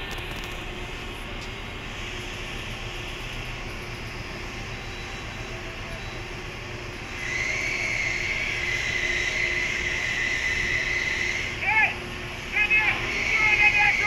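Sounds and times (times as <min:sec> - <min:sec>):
high-pitched whine: 0:00.0 - 0:14.0
steady mechanical drone: 0:00.0 - 0:14.0.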